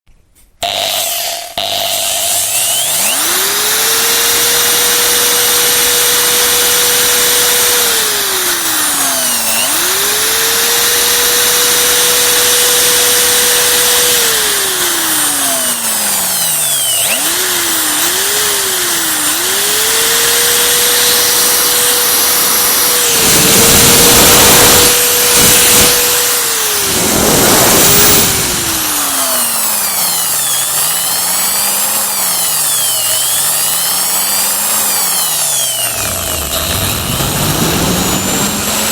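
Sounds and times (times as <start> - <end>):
electric drill motor whining: 0.6 - 38.9
harsh rasping: 0.6 - 38.9.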